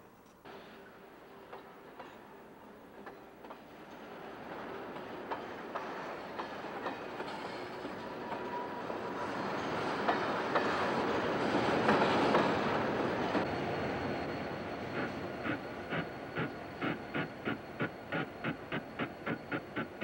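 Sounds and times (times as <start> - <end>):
train wheels rumbling: 3.0 - 20.0.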